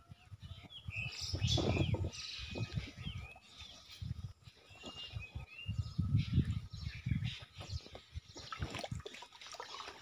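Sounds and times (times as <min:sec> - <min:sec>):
birds chirping and whistling: 0:00.0 - 0:09.0.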